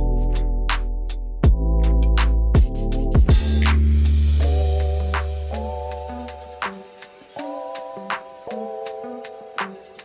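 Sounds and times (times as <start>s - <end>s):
electronic drums: 0.0s - 10.0s.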